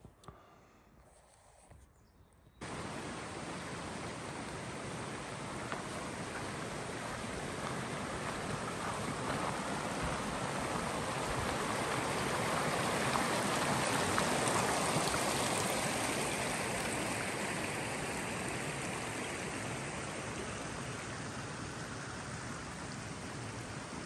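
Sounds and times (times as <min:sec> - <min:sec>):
water rushing: 0:02.6 - 0:24.0.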